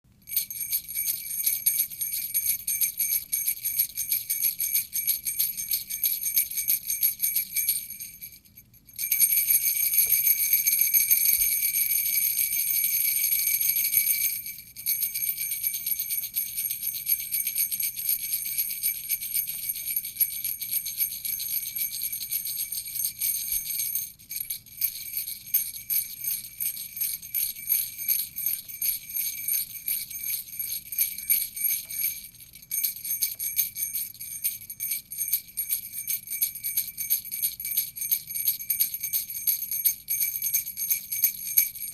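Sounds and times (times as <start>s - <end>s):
sleigh bells jingling: 0.2s - 41.9s.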